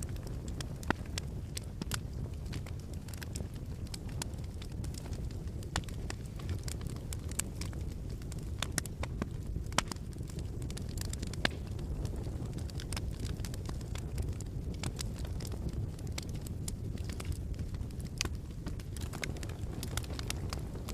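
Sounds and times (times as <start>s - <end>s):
fire crackling and popping: 0.0s - 20.9s
rumble of fire flames: 0.0s - 20.9s.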